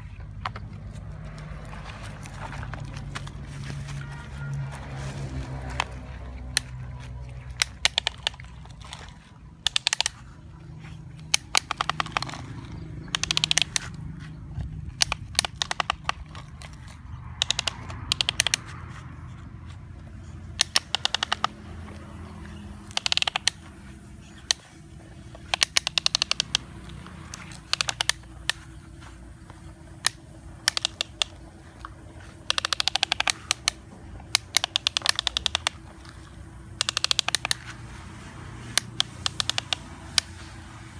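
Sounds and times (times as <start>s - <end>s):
toy excavator clicking: 0.0s - 40.9s.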